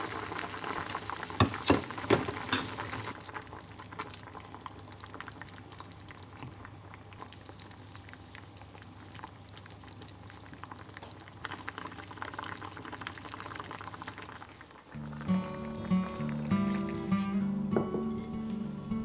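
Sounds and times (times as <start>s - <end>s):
stew bubbling in a pot: 0.0s - 17.2s.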